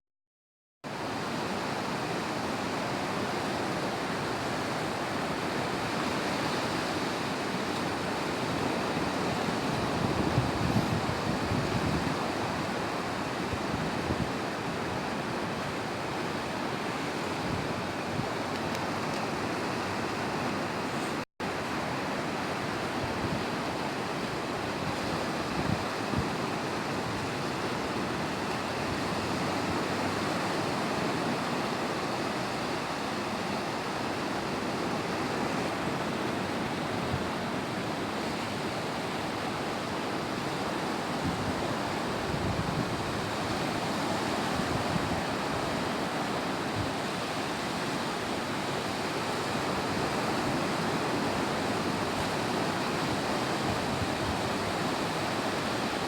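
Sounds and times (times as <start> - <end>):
ocean waves breaking: 0.9 - 56.0.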